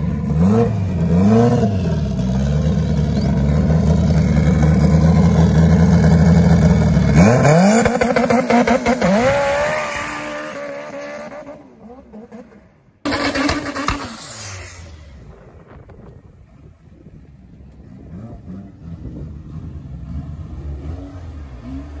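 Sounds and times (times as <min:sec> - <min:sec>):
car engine revving and accelerating: 0:00.0 - 0:03.0, 0:03.6 - 0:15.0, 0:17.9 - 0:22.0.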